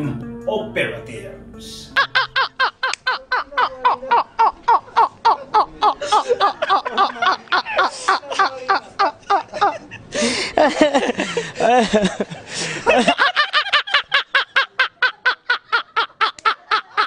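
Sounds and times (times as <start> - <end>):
men laughing hard: 2.0 - 17.0.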